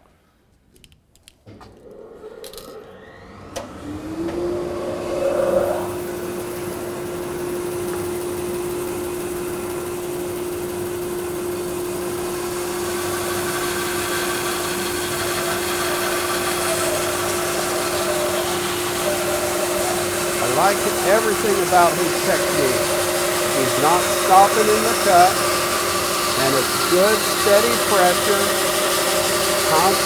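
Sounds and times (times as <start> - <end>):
dust collector motor humming: 1.9 - 30.0
bandsaw cutting wood: 3.0 - 30.0.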